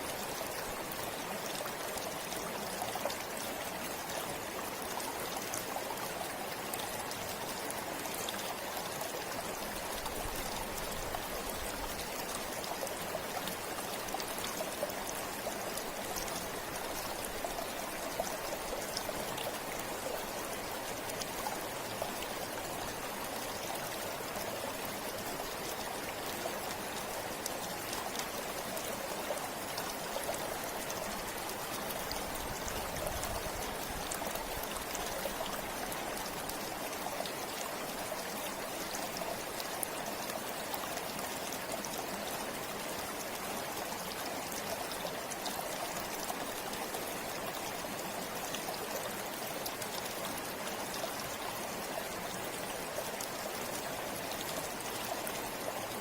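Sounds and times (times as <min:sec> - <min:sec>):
stream flowing over rocks: 0:00.0 - 0:56.0
water drips and trickles: 0:00.0 - 0:56.0.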